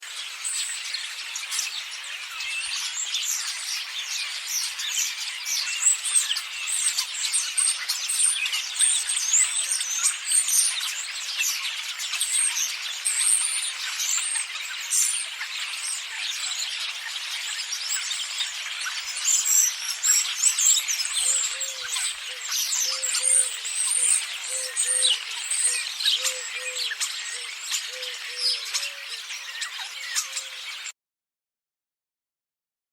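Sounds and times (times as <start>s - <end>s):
flock of starlings chattering: 0.0s - 30.9s.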